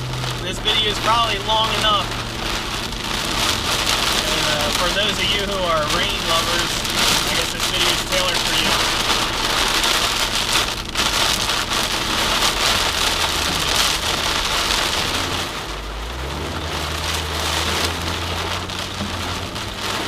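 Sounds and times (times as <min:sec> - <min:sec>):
heavy rain on a car: 0:00.0 - 0:20.0
low car hum: 0:00.0 - 0:20.0.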